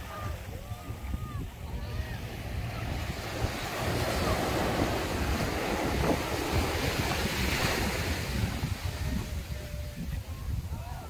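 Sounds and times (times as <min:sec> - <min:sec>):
small waves breaking on sand: 0:00.0 - 0:11.0
wind rumbling on microphone: 0:00.0 - 0:11.0.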